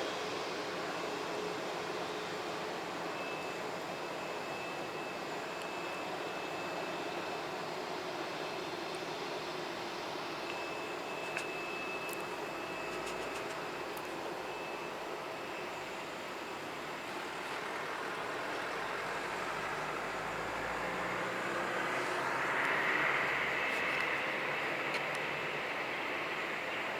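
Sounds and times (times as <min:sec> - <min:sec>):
jet engine rush with high whine: 0:00.0 - 0:26.9.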